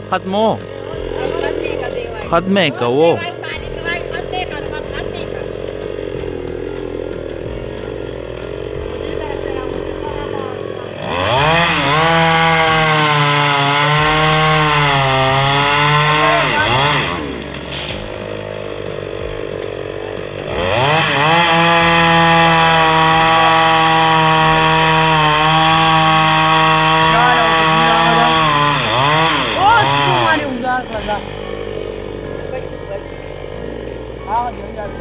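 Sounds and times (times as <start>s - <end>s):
chainsaw revving and idling: 0.0s - 35.0s.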